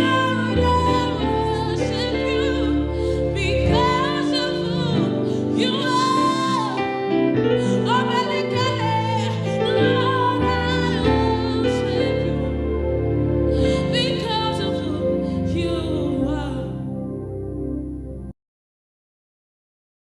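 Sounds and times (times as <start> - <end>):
person singing: 0.0 - 17.1
sustained instrumental chords: 0.0 - 18.3.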